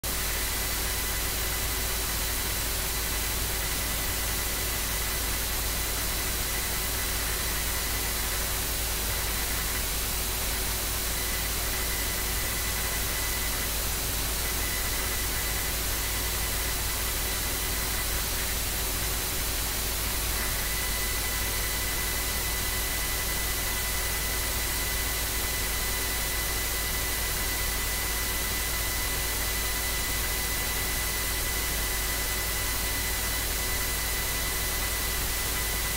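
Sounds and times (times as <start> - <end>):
faint high electrical whine: 0.1 - 35.9.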